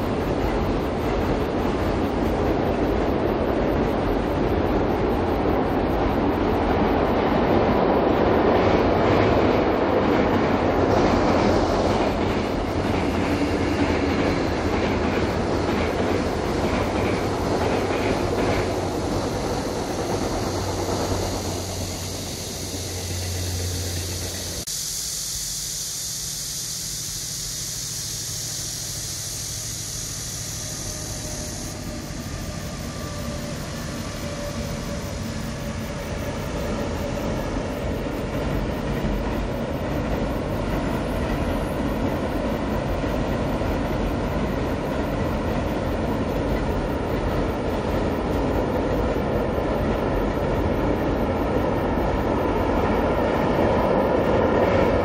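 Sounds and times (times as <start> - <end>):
freight train rumbling on bridge: 0.0 - 24.7, 27.0 - 55.0
steady high hiss: 0.0 - 55.0.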